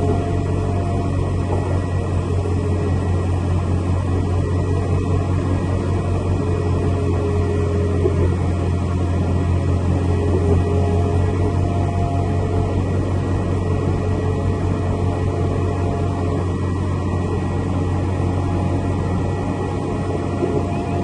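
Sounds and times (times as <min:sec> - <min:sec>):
airliner engine drone: 0:00.0 - 0:21.0
faint whining tones: 0:00.0 - 0:21.0.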